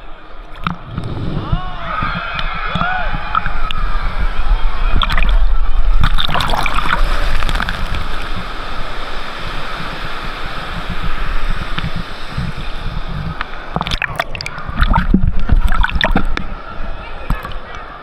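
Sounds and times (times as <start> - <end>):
wave pool water churning: 0.0 - 18.0.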